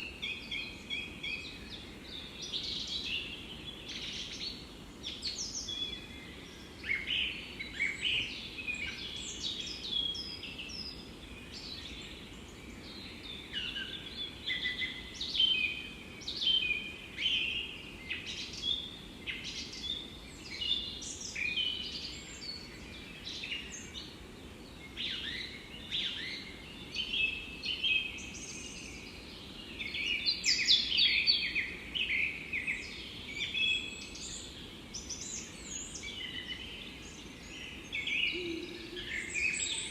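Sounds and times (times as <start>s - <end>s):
birds singing and chirping: 0.0s - 39.9s
faint steady background hiss: 0.0s - 39.9s.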